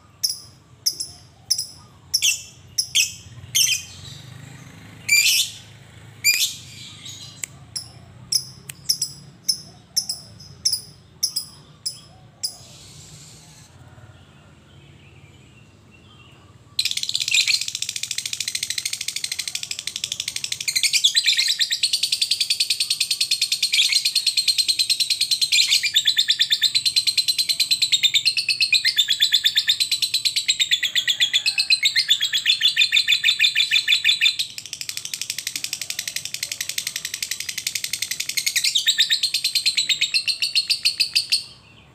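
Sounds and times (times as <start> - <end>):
lovebird chirping and trilling: 0.1 - 13.7, 16.8 - 41.7.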